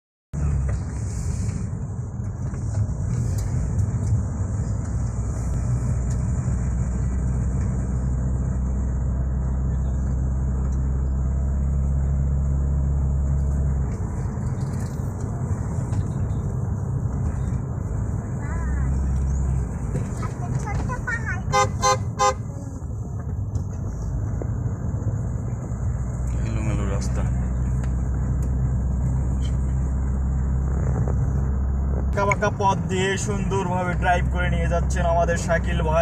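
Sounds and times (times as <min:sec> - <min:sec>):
vehicle engine and road drone: 0:00.3 - 0:36.0.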